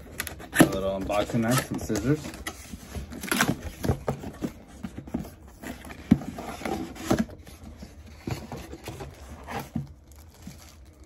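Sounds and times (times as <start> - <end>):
cardboard box being handled: 0.7 - 10.8.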